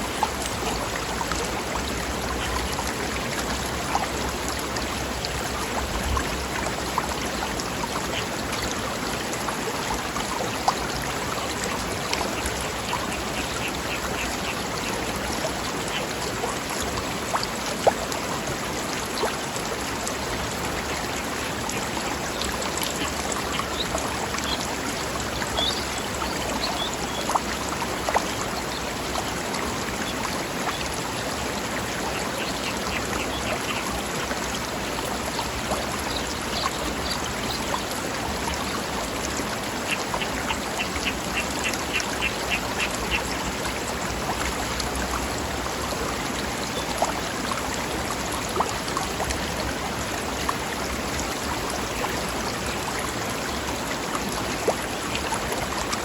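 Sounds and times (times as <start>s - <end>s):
stream flowing over rocks: 0.0s - 56.0s
water splashes and plops: 0.0s - 56.0s.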